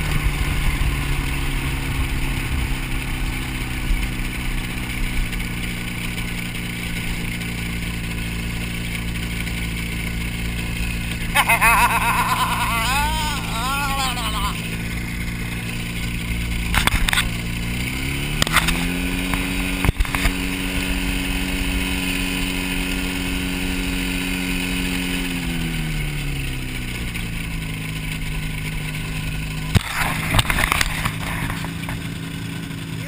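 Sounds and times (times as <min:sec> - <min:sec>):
airplane engine and propeller: 0:00.0 - 0:33.0.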